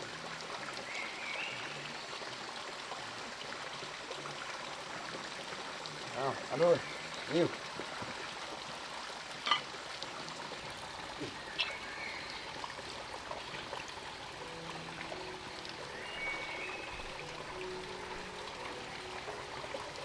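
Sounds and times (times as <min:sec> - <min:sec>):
stream running: 0:00.0 - 0:20.0.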